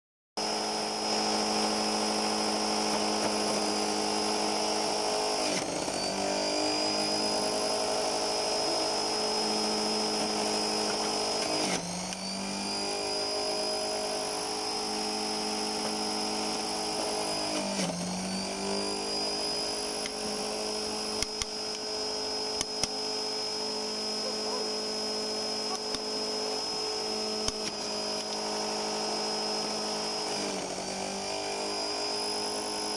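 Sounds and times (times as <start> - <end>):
juicer motor whining: 0.4 - 32.9.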